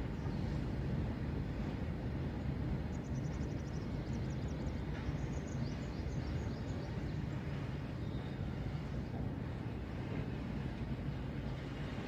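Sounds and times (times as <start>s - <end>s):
freight wagons rumbling on rails: 0.0s - 12.0s.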